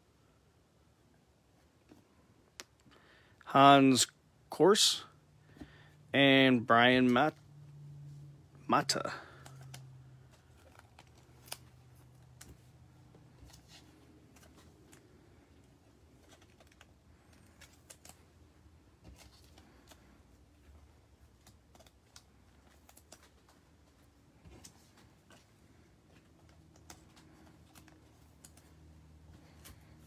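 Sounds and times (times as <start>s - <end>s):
trading cards and sleeves handled: 4.7s - 30.0s.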